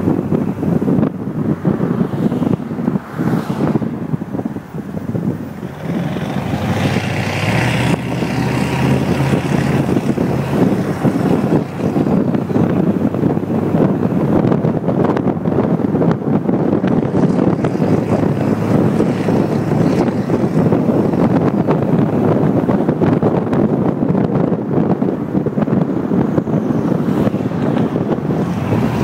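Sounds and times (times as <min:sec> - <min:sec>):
vehicle wind and road noise: 0:00.0 - 0:29.0.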